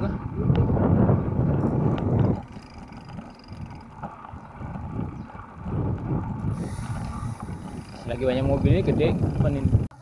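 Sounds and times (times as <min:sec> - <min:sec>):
tyre and road noise: 0:00.0 - 0:10.0
wind buffeting microphone: 0:00.0 - 0:10.0.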